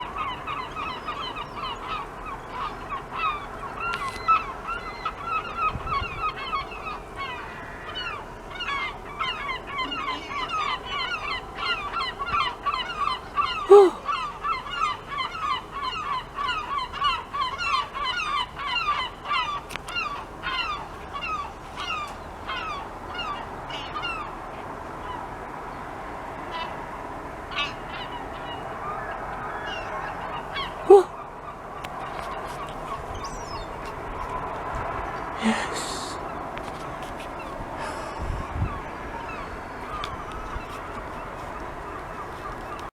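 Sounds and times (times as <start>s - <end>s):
flock of birds calling: 0.0s - 25.3s, 27.5s - 34.6s, 35.4s - 42.9s.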